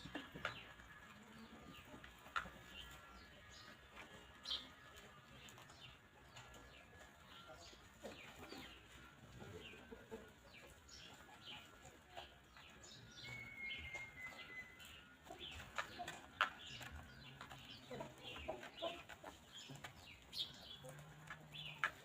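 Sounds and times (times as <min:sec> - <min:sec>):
faint chickens: 0:00.0 - 0:22.0
small birds chirping: 0:00.0 - 0:22.0.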